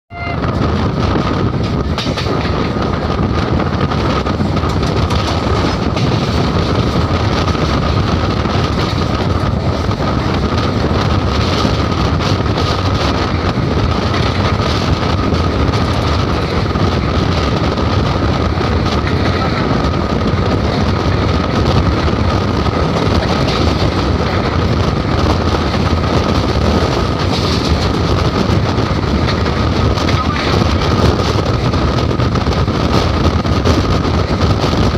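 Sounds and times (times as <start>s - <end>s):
train wheels on rails: 0.1s - 34.9s
wind: 0.1s - 34.9s.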